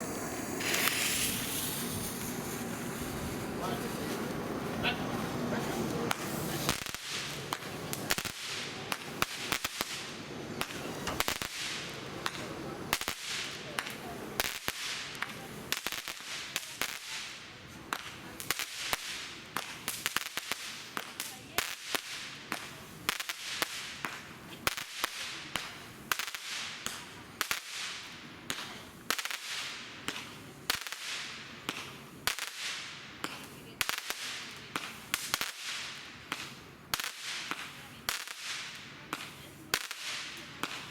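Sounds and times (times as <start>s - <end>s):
fireworks cracks: 0.0s - 40.9s
fireworks hiss: 0.0s - 40.9s.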